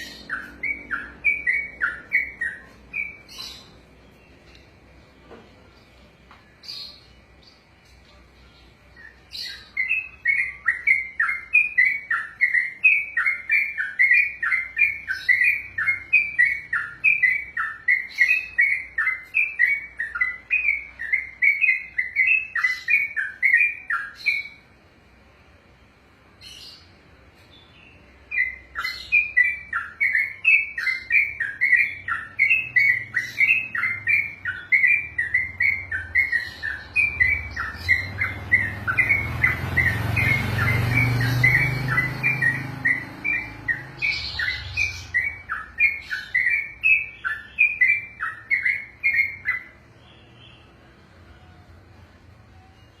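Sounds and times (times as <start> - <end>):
bird singing rapid falling notes: 0.0 - 24.8, 25.8 - 53.0.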